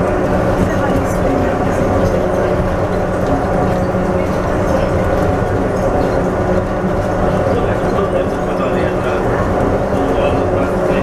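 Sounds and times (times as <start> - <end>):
constant motor hum: 0.0 - 11.0
train rolling rumble: 0.0 - 11.0.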